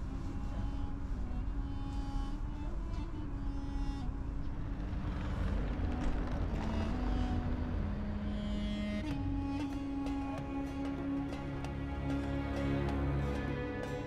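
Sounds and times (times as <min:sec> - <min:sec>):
quiet background music: 0:00.0 - 0:14.0
train carriage rumbling: 0:00.0 - 0:14.0.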